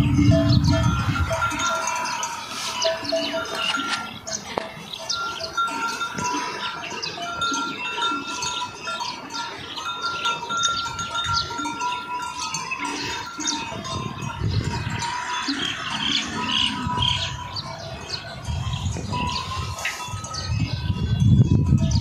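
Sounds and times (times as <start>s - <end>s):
birds chirping: 0.0s - 22.0s
cattle bells tinkling: 0.0s - 22.0s.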